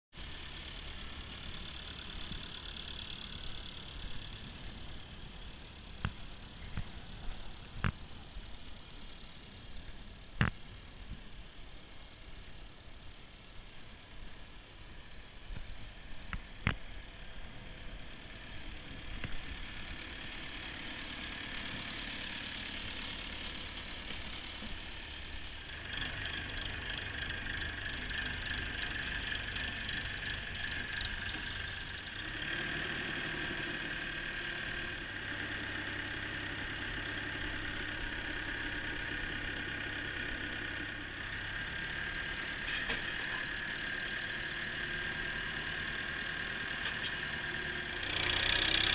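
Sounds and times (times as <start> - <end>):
tractor diesel engine running: 0.2 - 48.9.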